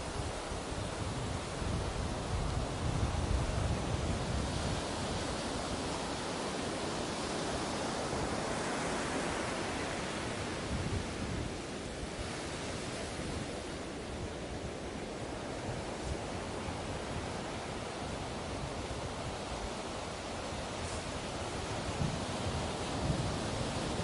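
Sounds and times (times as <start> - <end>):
ocean surf breaking: 4.3 - 24.0.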